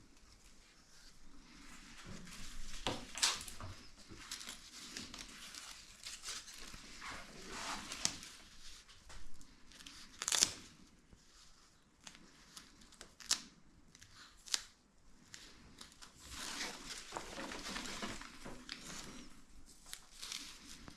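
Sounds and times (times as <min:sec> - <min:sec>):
material crinkling and rustling: 0:00.0 - 0:20.9.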